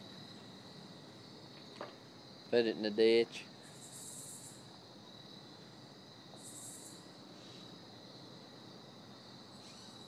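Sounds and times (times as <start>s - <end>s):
high insect buzz: 0.0s - 10.0s
insects trilling: 0.0s - 10.0s.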